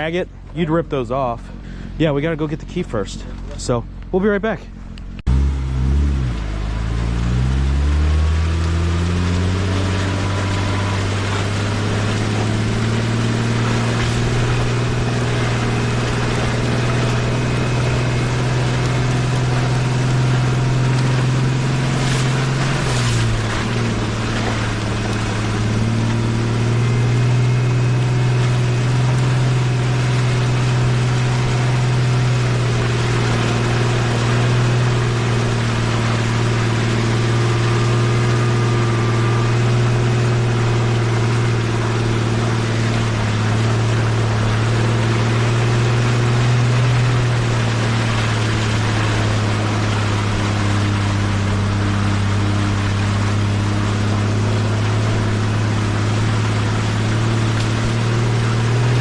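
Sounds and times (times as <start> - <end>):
car engine droning at low revs: 0.0 - 59.0.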